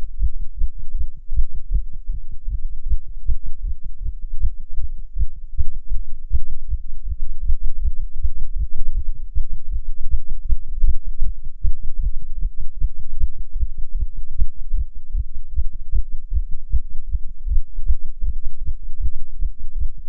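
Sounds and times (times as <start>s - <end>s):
fast heartbeat thumps: 0.2s - 20.0s.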